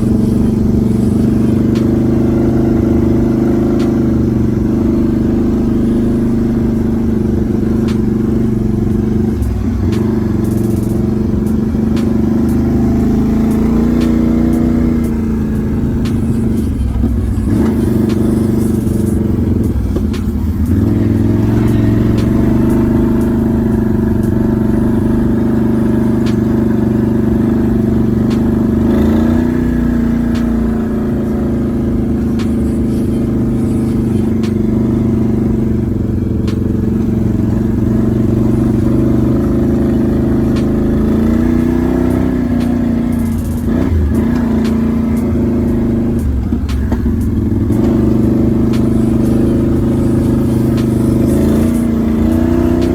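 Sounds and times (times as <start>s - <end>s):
atv engine revving: 0.0s - 52.9s.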